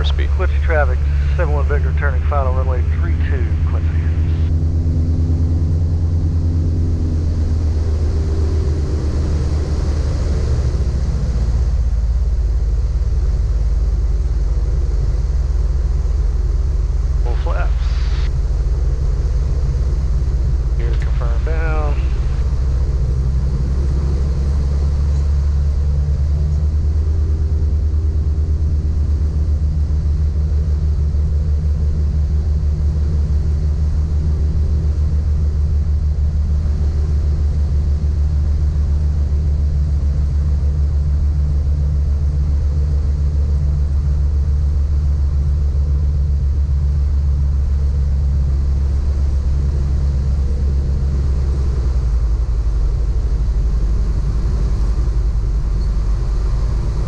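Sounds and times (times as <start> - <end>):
piston aircraft engines droning: 0.0 - 57.0.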